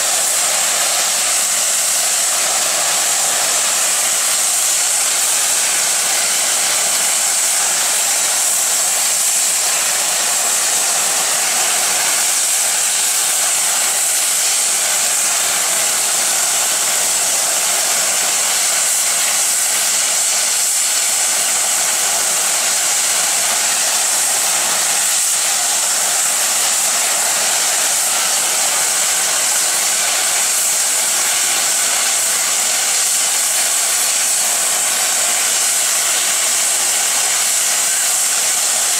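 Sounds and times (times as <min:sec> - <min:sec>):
steam hissing from safety valves: 0:00.0 - 0:38.9.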